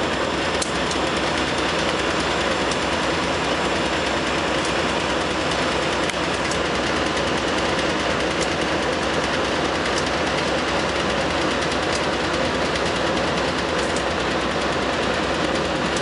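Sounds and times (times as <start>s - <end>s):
train wheels rumbling and clattering: 0.0s - 16.0s.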